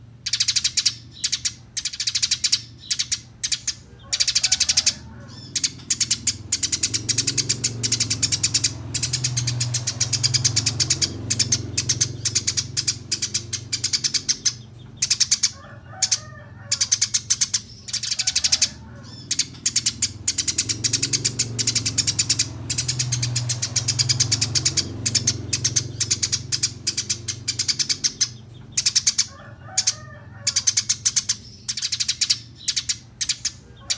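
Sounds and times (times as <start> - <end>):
sparrows chattering: 0.0 - 33.9
steady low hum: 0.0 - 33.9.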